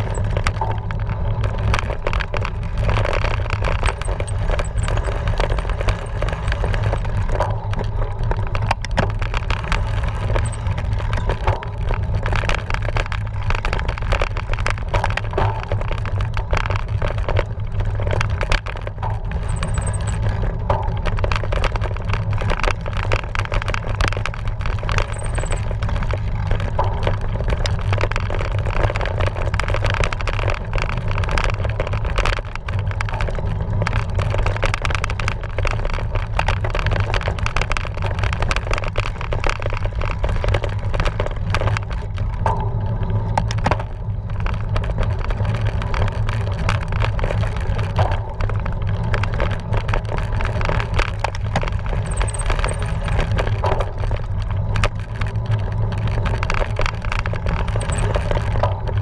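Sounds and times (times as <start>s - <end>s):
bike rattling and clicking: 0.0s - 59.0s
wind rumble on microphone: 0.0s - 59.0s.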